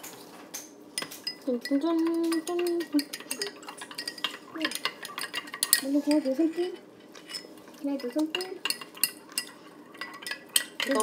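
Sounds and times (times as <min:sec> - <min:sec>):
metal spoon clinking in cup: 0:01.0 - 0:11.0.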